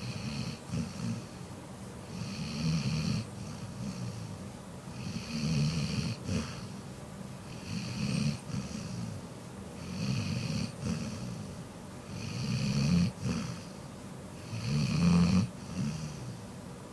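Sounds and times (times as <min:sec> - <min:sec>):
rhythmic snoring: 0:00.0 - 0:16.4.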